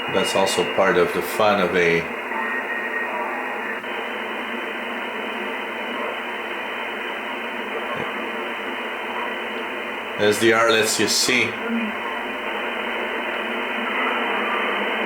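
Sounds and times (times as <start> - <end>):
shortwave radio static hiss: 0.0 - 15.0.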